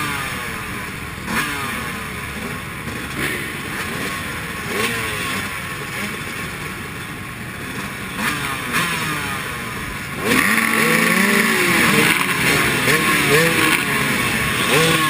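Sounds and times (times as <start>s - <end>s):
motorcycles revving on track: 0.0s - 15.0s.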